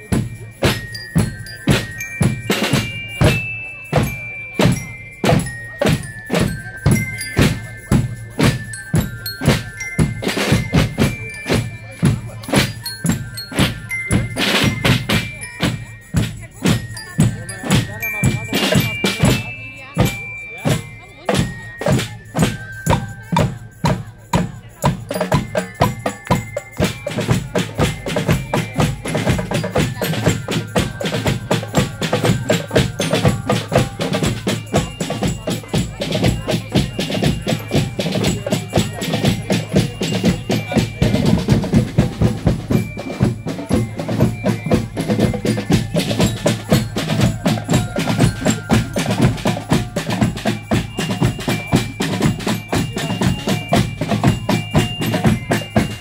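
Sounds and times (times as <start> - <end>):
bass drum march beat: 0.0 - 56.0
bell lyres playing melody: 0.0 - 56.0
snare drums: 0.0 - 56.0.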